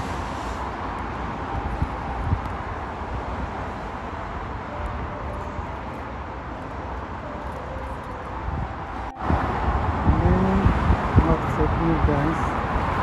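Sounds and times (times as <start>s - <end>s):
distant city traffic rumble: 0.0s - 13.0s.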